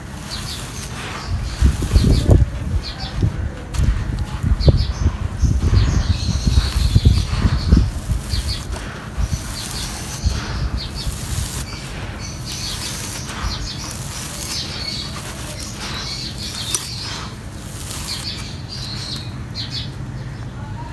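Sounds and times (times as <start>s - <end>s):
sand and gravel pouring: 0.0s - 19.7s
hands crunching in sand: 0.0s - 19.8s.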